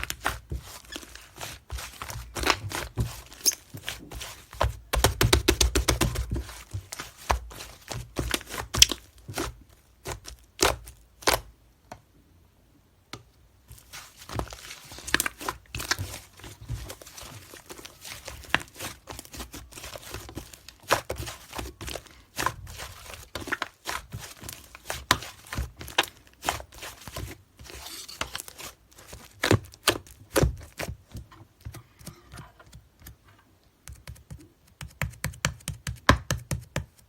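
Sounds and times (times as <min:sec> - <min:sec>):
crinkling: 0:00.0 - 0:11.5, 0:13.7 - 0:32.7.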